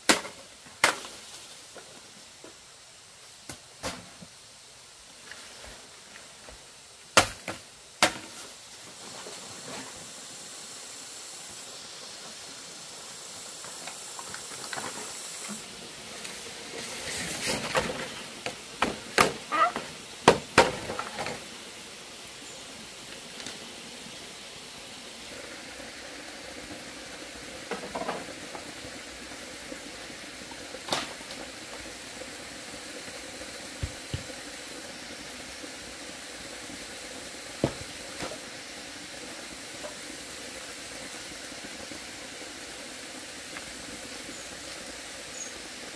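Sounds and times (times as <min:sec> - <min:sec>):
stream water running: 0:00.0 - 0:45.9.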